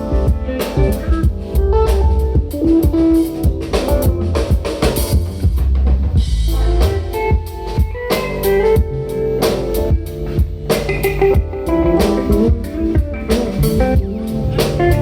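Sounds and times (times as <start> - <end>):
sustained bass line: 0.0 - 8.0, 8.7 - 15.0
drum kit steady beat: 0.0 - 15.0
held instrument chords: 0.0 - 15.0.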